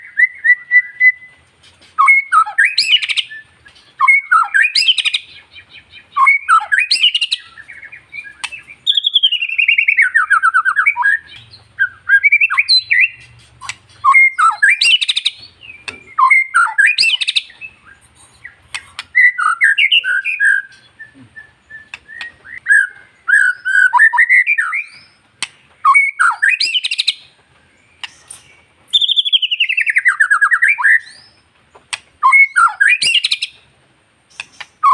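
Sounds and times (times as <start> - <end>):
bird singing whistled phrases: 0.0 - 1.4, 2.0 - 25.2, 25.8 - 27.3, 28.0 - 31.4, 32.2 - 33.6, 34.3 - 34.9.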